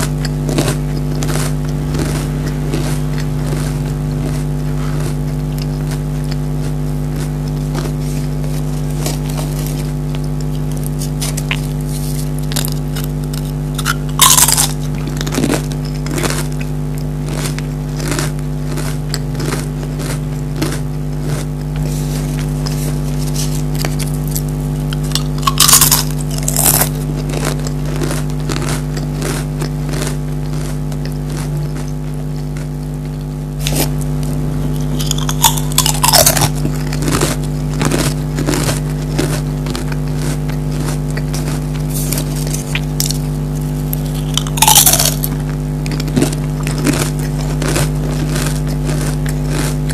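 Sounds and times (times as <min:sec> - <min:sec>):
crisps crunching: 0:00.0 - 0:49.9
steady low hum: 0:00.0 - 0:49.9.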